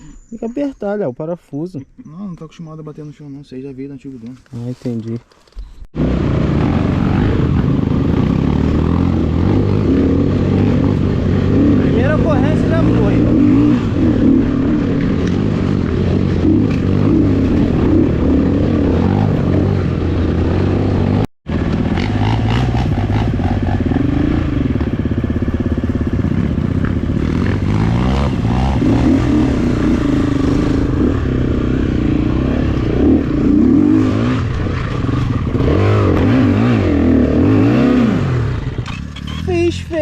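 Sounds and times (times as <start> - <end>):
dirt bike engine revving: 6.0 - 40.0.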